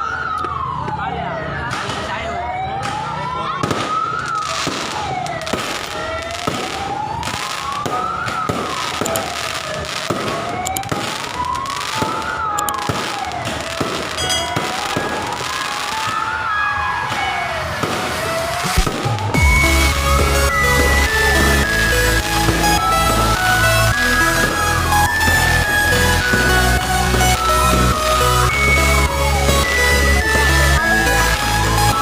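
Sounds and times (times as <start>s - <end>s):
fireworks bangs and crackles: 0.0s - 32.0s
siren wailing: 0.0s - 32.0s.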